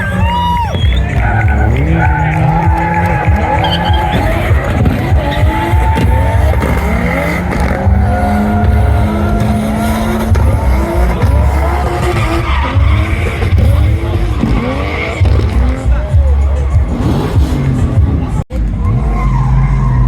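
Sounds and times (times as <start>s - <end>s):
car engines revving: 0.0s - 20.0s
tires squealing: 0.0s - 20.0s.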